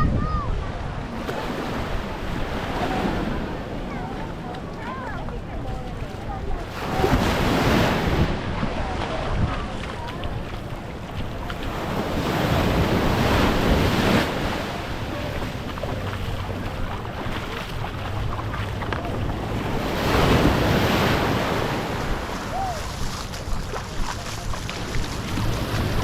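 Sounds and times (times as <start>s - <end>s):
wind buffeting microphone: 0.0s - 26.0s
small waves washing up: 0.2s - 26.0s.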